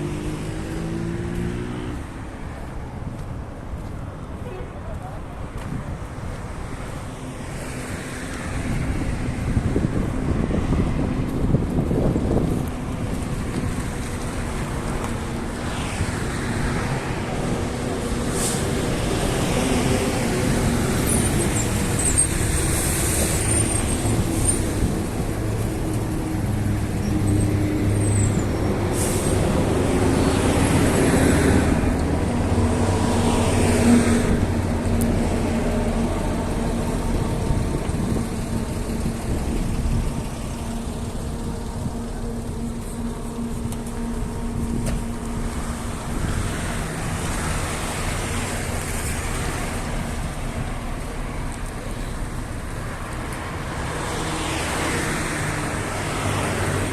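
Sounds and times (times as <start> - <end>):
engine rumble: 0.0 - 56.9
vehicles driving past: 0.0 - 56.9.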